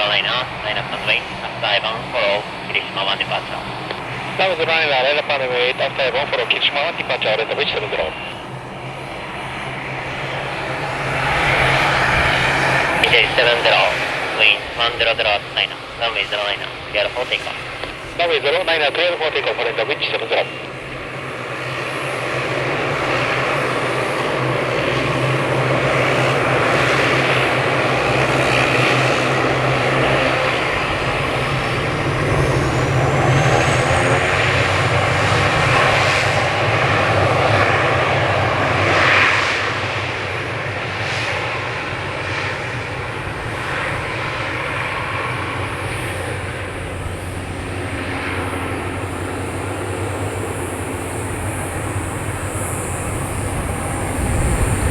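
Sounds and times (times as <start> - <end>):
turboprop plane taking off: 0.0 - 54.9.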